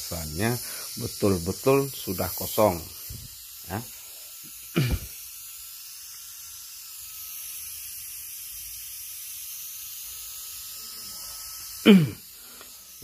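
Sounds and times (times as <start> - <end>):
high-pressure air hissing out: 0.0 - 13.0.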